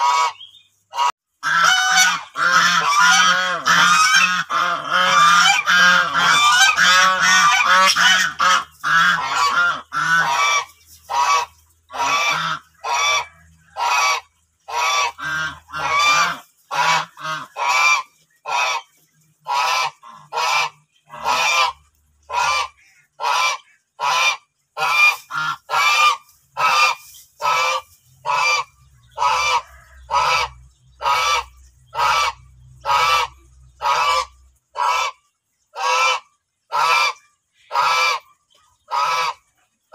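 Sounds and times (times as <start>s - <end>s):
geese honking loudly: 0.0s - 39.5s.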